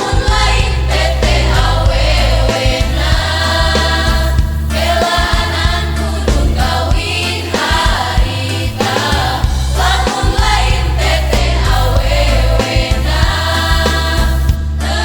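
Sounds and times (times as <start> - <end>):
heavy steady bass line: 0.0 - 15.0
mixed choir singing: 0.0 - 15.0.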